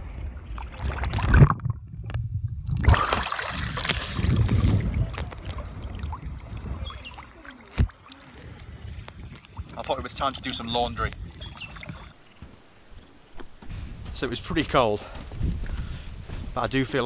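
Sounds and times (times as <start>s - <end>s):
water splashing and sloshing: 0.0s - 13.7s.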